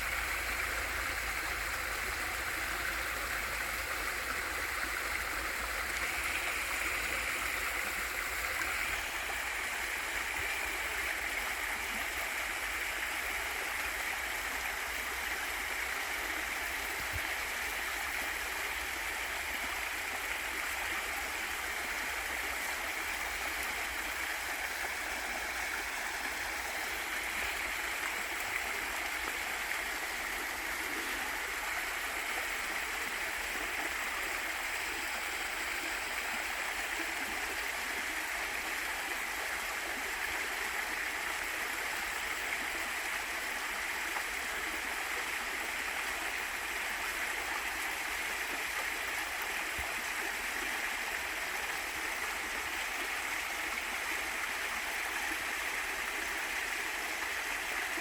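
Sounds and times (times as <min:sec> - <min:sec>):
waterfall and stream running: 0:00.0 - 0:58.0.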